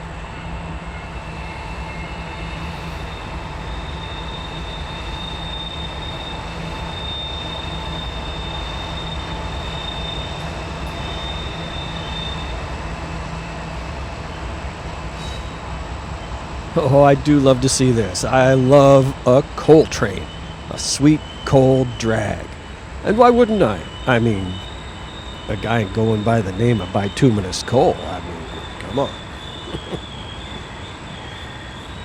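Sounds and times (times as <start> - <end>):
high wheel squeal: 0.0 - 32.0
train rumbling: 0.0 - 32.0.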